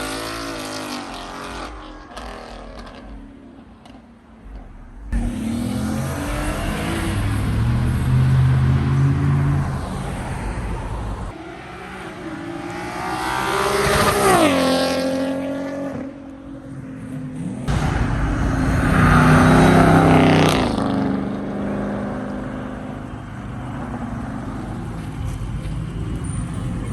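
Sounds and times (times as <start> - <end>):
car engine revving: 0.0 - 16.3, 17.4 - 25.0.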